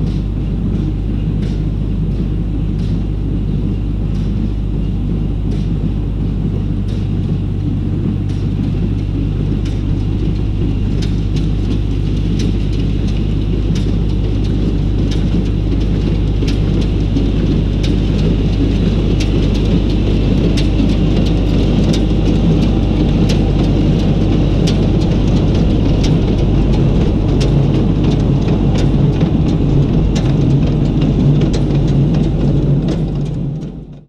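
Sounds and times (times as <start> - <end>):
wind rumbling on microphone: 0.0 - 34.0
tractor and hay baler running: 2.3 - 34.0.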